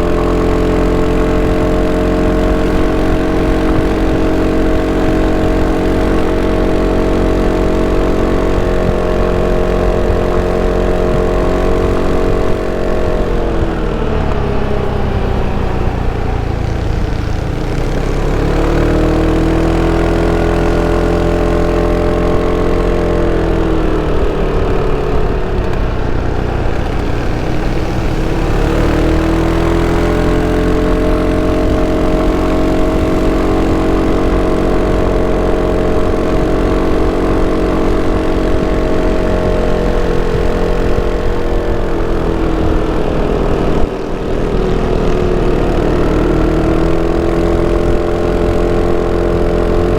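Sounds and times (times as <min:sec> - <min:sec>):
scooter engine running: 0:00.0 - 0:49.9.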